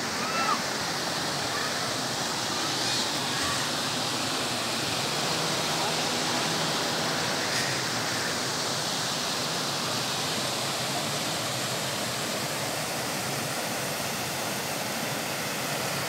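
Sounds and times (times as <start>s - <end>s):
mountain stream rushing over rocks: 0.0s - 16.0s.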